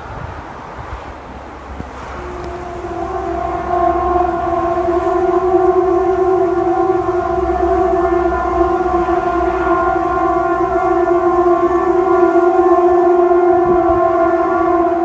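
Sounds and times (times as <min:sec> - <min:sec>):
siren-like drone: 0:01.5 - 0:15.0.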